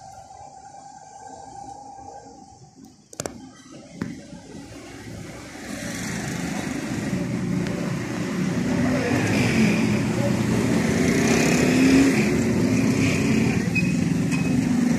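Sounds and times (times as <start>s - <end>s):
vehicle engine rumble: 0.0s - 14.9s.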